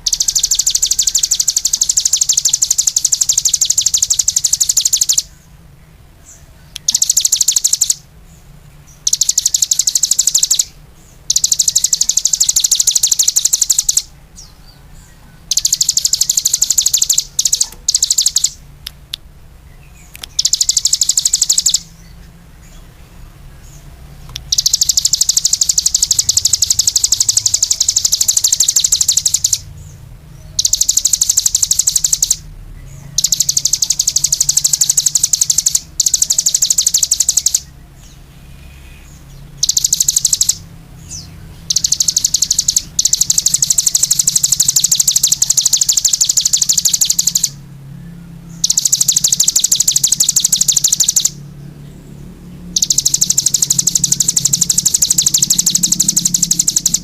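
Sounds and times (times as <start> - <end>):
songbird trilling: 0.0 - 51.7, 52.6 - 57.0.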